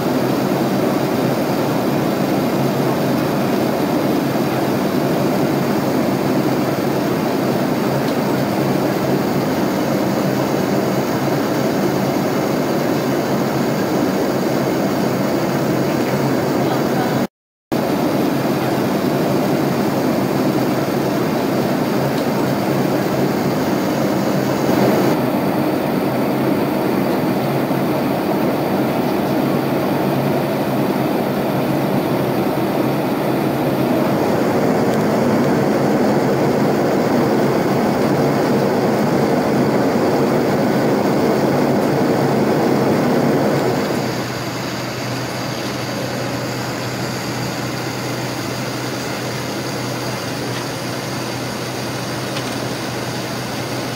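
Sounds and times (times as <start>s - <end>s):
airliner cabin noise: 0.0s - 53.9s.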